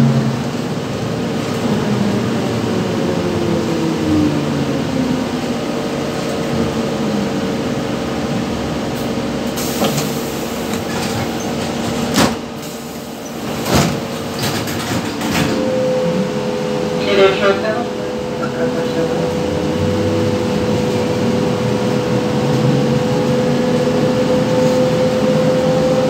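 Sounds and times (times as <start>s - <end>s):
trolleybus cabin running noise: 0.0s - 26.0s.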